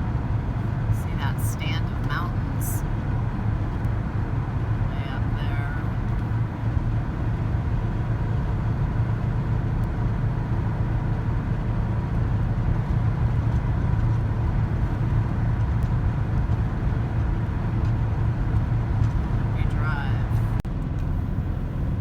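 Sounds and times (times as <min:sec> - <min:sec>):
vehicle engine and road drone: 0:00.0 - 0:22.0.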